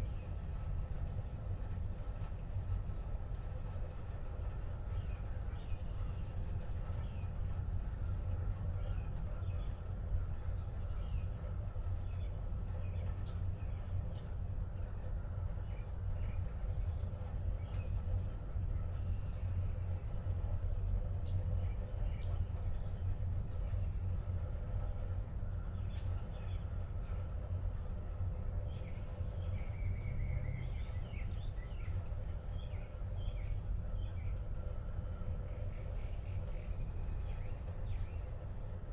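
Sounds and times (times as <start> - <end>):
small birds chirping: 0.0 - 38.9
steady low rumble: 0.0 - 38.9.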